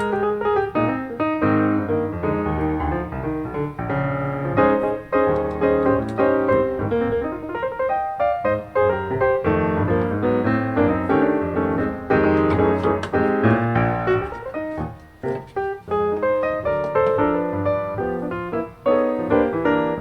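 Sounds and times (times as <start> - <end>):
lively piano music: 0.0 - 20.0.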